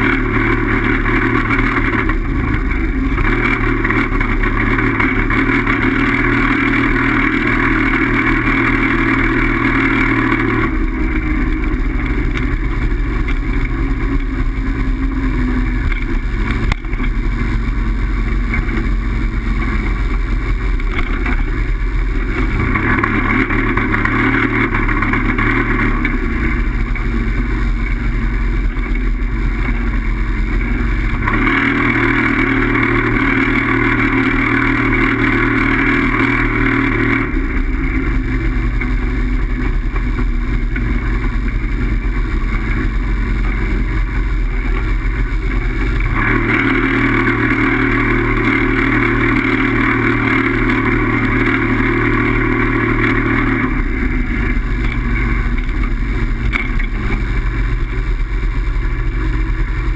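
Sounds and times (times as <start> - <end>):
wind and road noise from bike: 0.0 - 59.9.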